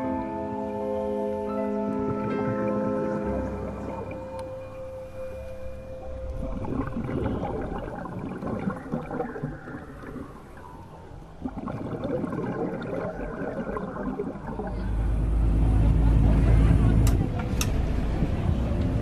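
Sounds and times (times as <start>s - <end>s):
underwater bubbling and gurgling: 0.0s - 17.4s.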